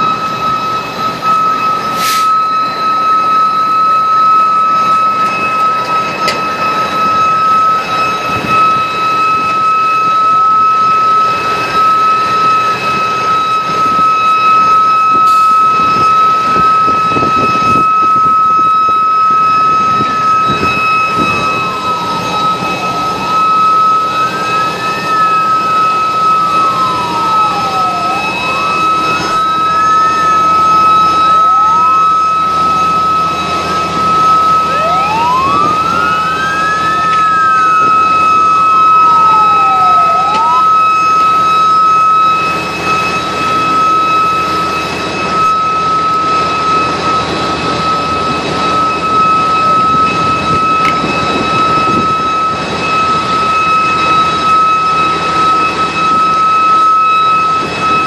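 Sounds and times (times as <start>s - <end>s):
emergency siren wailing: 0.0s - 58.0s
fire engine pumps running: 0.0s - 58.0s
high-pitched whine: 0.0s - 58.0s.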